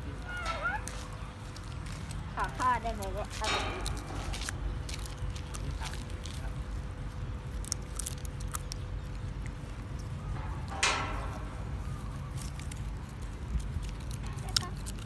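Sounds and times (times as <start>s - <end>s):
grass rustling: 0.5s - 15.0s
puppy chewing a stick: 0.8s - 10.7s, 11.5s - 15.0s.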